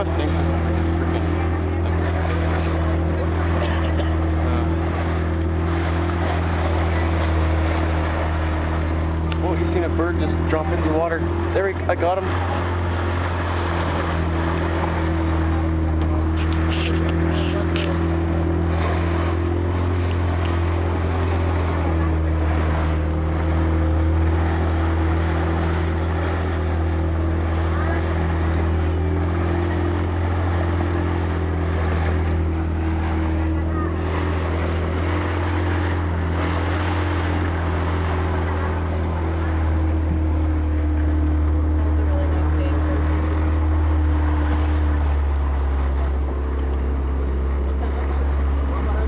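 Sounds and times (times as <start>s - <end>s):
boat motor droning: 0.0s - 49.0s
water rushing along hull: 0.0s - 49.0s.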